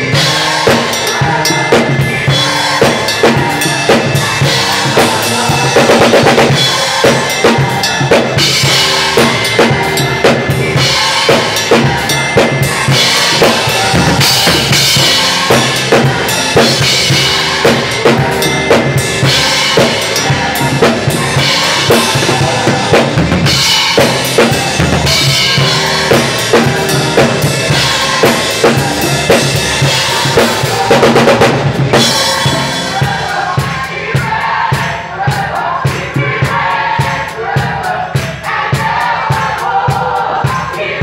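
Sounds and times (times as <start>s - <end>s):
keyboard playing: 0.0s - 33.8s
cymbals: 0.0s - 41.0s
drum kit groove: 0.0s - 41.0s.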